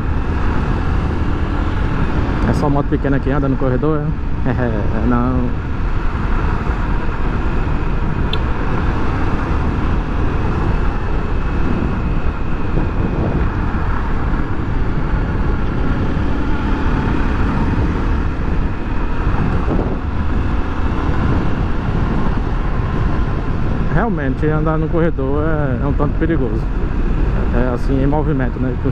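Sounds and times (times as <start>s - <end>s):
motorcycle engine running: 0.0s - 28.9s
wind and road noise: 0.0s - 28.9s.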